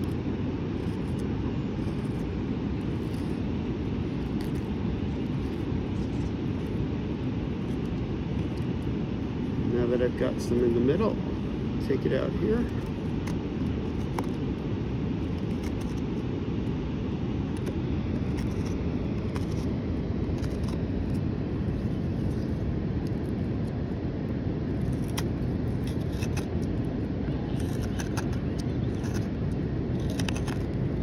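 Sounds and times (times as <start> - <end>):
knife carving wood: 0.0 - 11.1, 11.9 - 16.2, 17.5 - 23.3, 24.8 - 26.8, 27.4 - 31.0
low outdoor rumble: 0.0 - 31.0.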